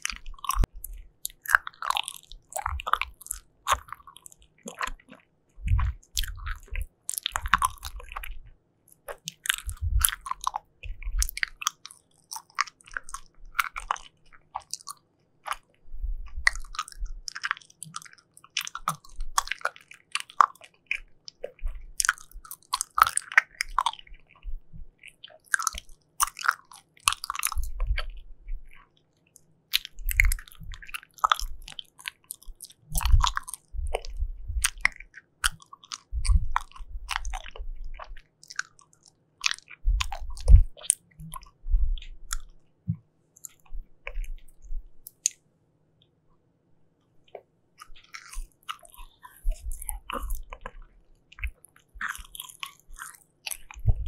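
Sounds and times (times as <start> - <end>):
chewing soft jelly: 0.0 - 45.4, 47.0 - 54.0
wet mouth clicks and smacks: 0.0 - 45.4, 47.2 - 54.0.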